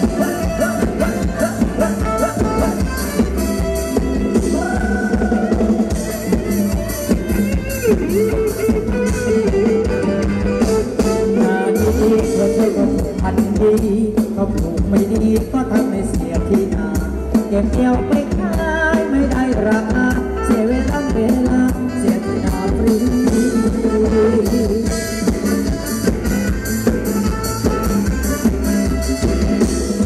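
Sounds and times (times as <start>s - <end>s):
live band dance music: 0.0s - 30.0s.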